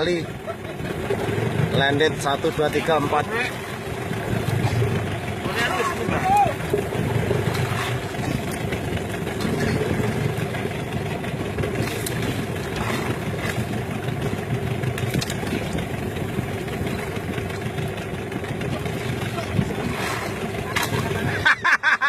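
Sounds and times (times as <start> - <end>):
boat engine idling: 0.0 - 22.0
water noise: 0.0 - 22.0.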